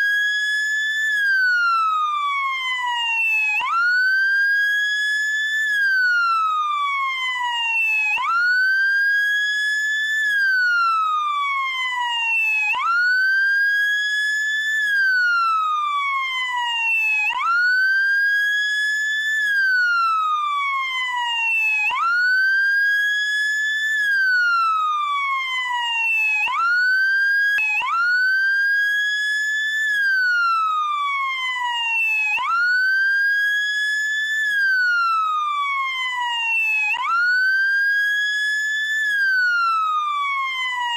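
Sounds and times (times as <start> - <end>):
wail siren: 0.0 - 40.9.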